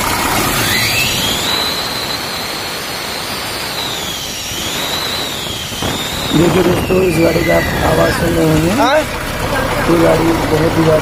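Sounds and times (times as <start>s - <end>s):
diesel engine revving: 0.0s - 11.0s
high engine whine: 0.0s - 11.0s.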